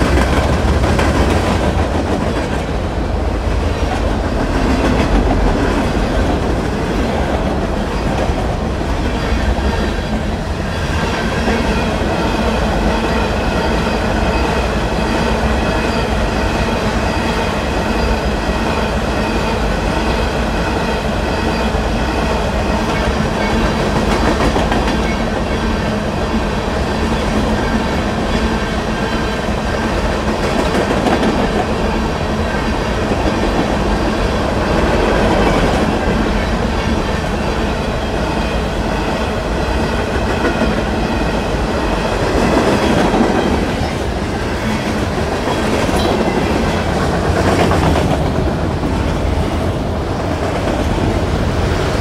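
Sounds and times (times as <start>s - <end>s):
train wheels rumbling and clacking: 0.0s - 52.0s.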